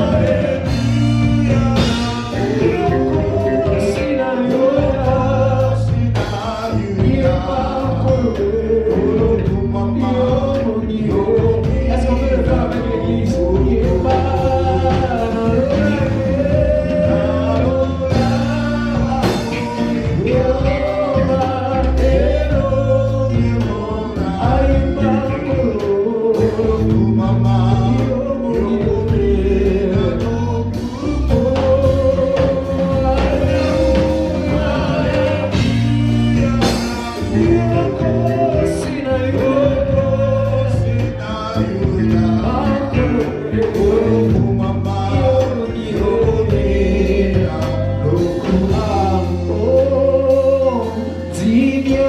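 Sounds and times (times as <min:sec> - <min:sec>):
gospel band with bass and drums: 0:00.0 - 0:52.0.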